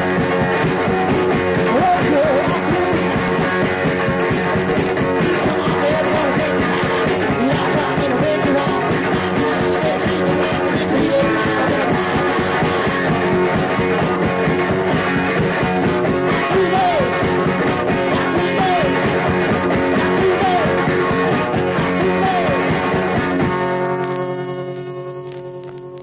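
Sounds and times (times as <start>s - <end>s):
garage punk rock music: 0.0s - 26.0s.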